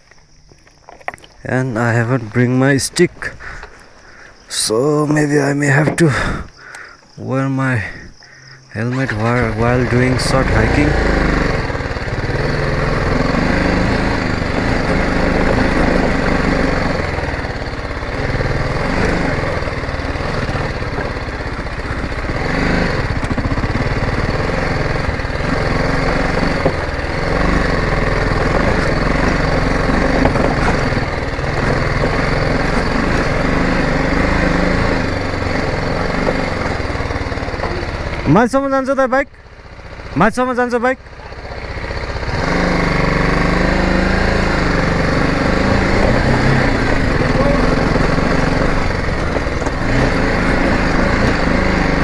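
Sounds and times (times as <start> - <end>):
motorcycle engine revving: 8.7 - 52.0.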